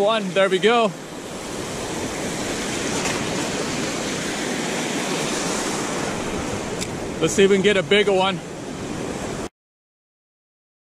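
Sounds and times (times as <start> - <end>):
ocean surf breaking: 0.0 - 9.5.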